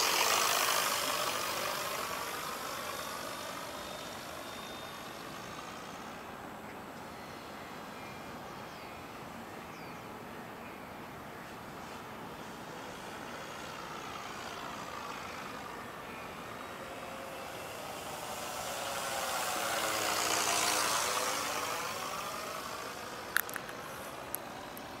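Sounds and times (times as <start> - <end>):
model plane engine-like noise: 0.0 - 25.0.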